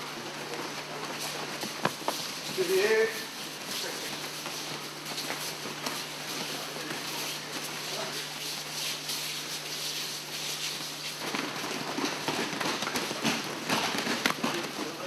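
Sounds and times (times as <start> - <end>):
bare feet running on mats: 0.2 - 15.0.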